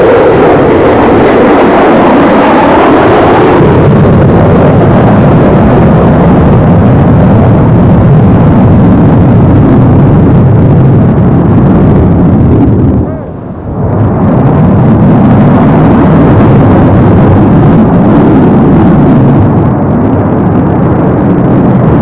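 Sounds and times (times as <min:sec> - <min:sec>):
jet engines at full thrust: 0:00.0 - 0:22.0.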